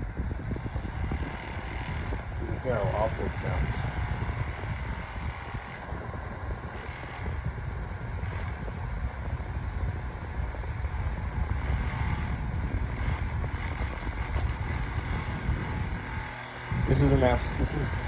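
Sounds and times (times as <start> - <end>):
table fan whirring: 0.0 - 18.0
wind buffeting microphone: 0.0 - 18.0.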